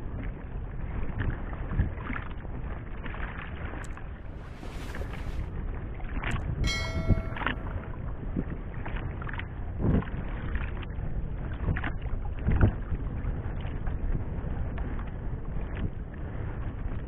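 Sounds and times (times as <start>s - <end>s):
water lapping against boat hull: 0.0s - 6.9s, 8.7s - 17.0s
wind rumble on microphone: 0.0s - 17.0s.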